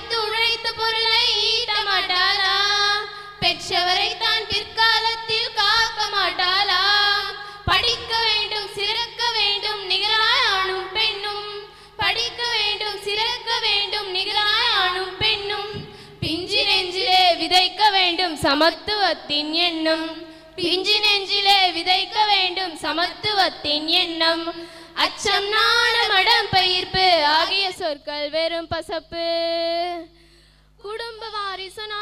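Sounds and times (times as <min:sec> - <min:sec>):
girls singing into microphones: 0:00.0 - 0:28.0.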